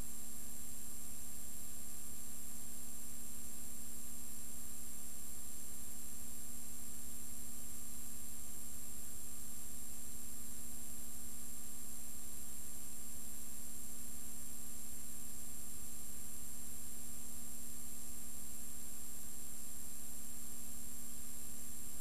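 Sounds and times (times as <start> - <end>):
faint high whine: 0.0 - 22.0
low electrical hum: 0.0 - 22.0.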